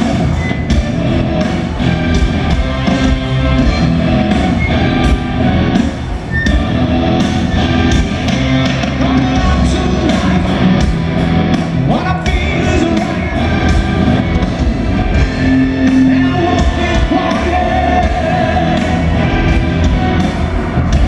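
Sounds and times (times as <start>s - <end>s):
live rock band: 0.0s - 21.0s.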